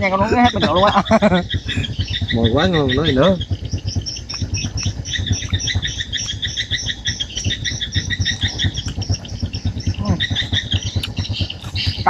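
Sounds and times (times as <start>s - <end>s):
low irregular pulsing: 0.0s - 12.0s
swiftlets chirping: 0.0s - 12.0s.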